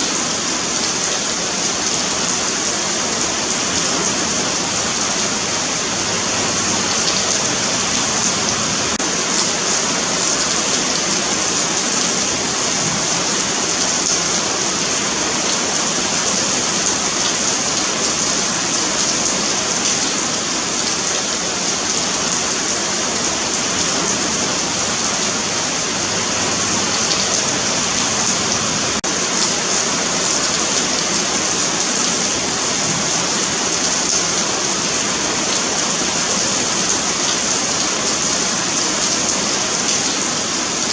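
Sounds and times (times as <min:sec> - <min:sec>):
rain falling on pavement: 0:00.0 - 0:40.9.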